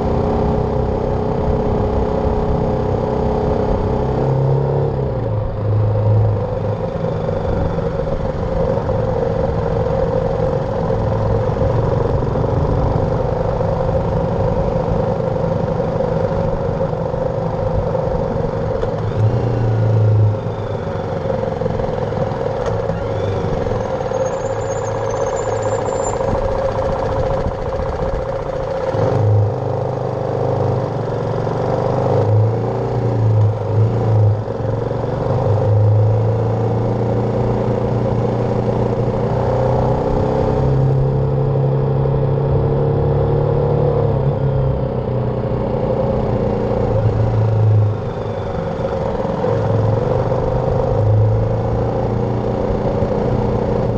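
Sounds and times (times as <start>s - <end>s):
motorcycle engine drone: 0.0s - 53.9s.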